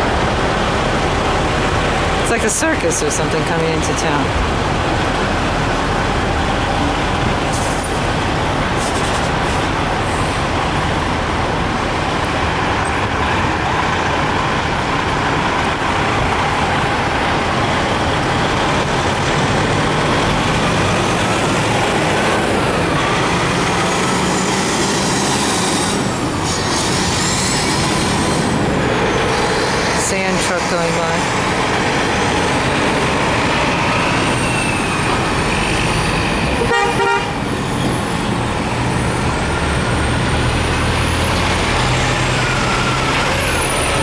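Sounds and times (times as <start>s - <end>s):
heavy trucks driving past: 0.0s - 44.0s.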